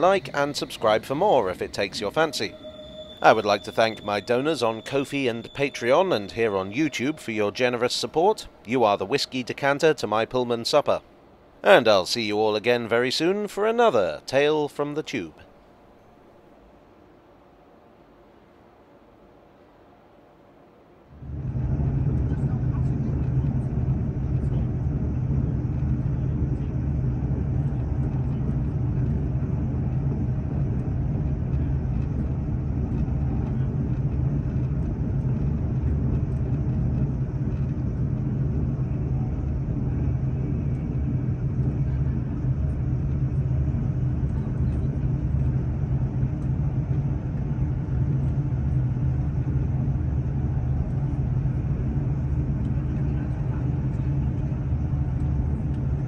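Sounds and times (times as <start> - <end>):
train rumbling in motion: 0.0 - 11.6, 15.4 - 56.0.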